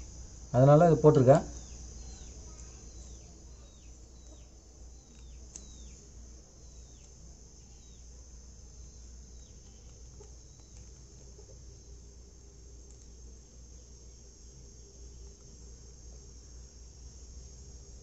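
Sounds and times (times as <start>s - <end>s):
insects droning: 0.0s - 18.0s
low steady hum: 0.0s - 18.0s.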